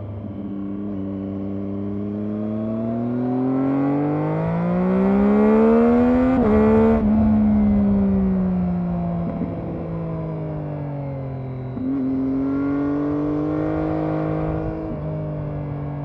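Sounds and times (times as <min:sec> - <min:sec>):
motorcycle engine revving: 0:00.0 - 0:10.4, 0:11.7 - 0:16.0.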